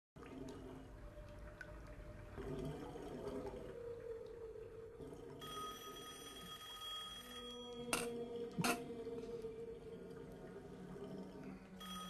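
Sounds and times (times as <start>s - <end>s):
whale song: 0.2s - 12.0s.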